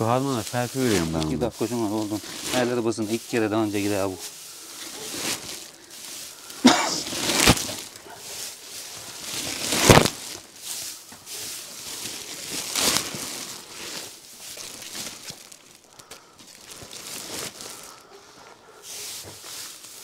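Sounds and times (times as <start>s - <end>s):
dry hay rustling: 0.0s - 20.0s.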